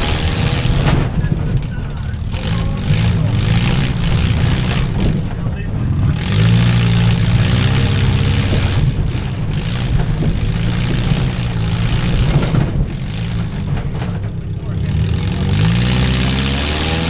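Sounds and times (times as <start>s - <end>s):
vehicle engines running and revving: 0.0s - 17.0s.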